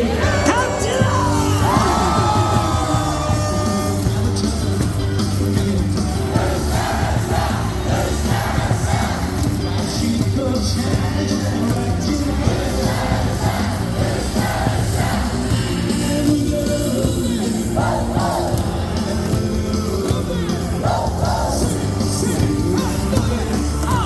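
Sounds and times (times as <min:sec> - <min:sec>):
crowd yelling: 0:00.0 - 0:24.0
music over stadium speakers: 0:00.0 - 0:24.0
stadium crowd singing: 0:00.0 - 0:24.0.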